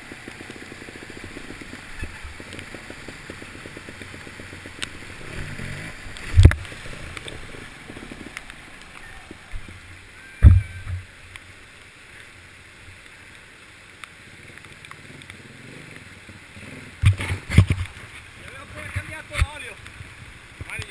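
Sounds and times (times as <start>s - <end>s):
rushing stream water: 0.0s - 20.9s.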